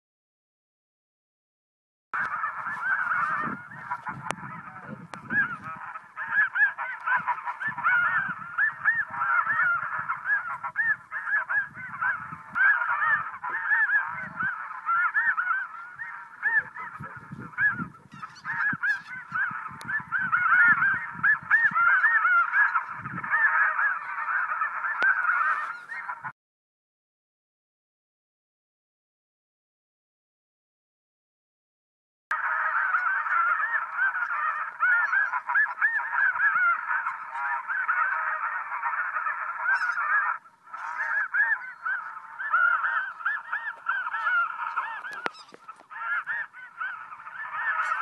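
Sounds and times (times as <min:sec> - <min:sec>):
geese honking: 0:02.2 - 0:26.3, 0:32.3 - 0:48.0.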